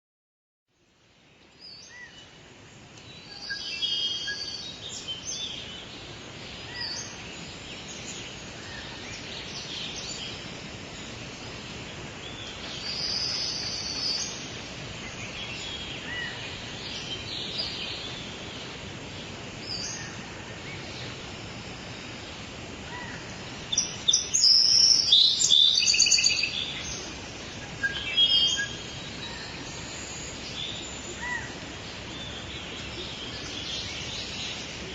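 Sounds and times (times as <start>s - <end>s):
steady background hiss: 0.7s - 34.9s
birds chirping and singing: 3.0s - 34.9s.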